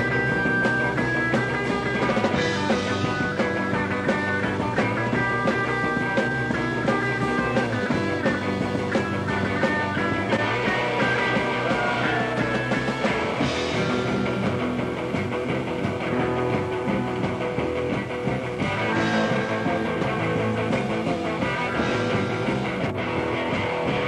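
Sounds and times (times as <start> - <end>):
lead electric guitar held notes: 0.0 - 24.0
rock band playing: 0.0 - 24.0.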